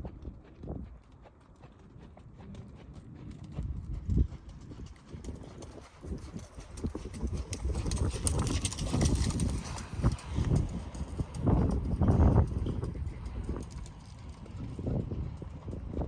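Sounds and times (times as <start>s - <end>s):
horse hoofbeats on ground: 0.0s - 16.0s
wind rumbling on microphone: 0.0s - 16.0s.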